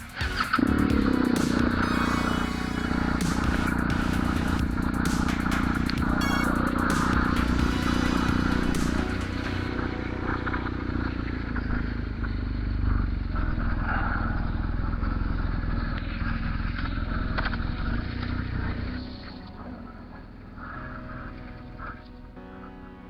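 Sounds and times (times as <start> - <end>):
motorcycle engine running: 0.2 - 18.9.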